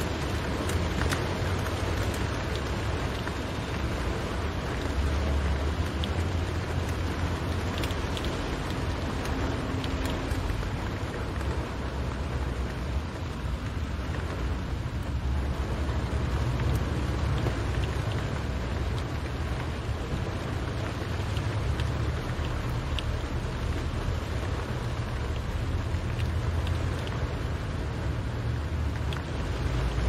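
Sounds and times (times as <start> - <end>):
low rumble of moving car: 0.0 - 30.0
rain on car roof: 0.0 - 30.0.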